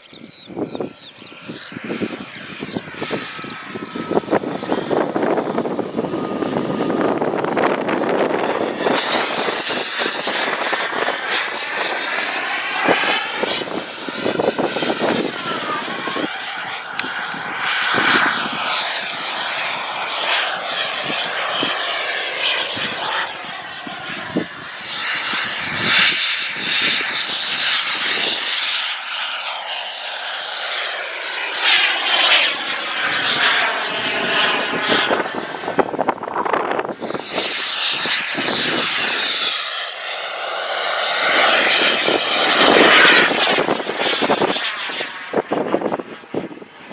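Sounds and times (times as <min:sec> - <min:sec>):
wind buffeting microphone: 0:00.0 - 0:29.4, 0:32.2 - 0:46.9
model jet turbine whine: 0:00.0 - 0:46.9.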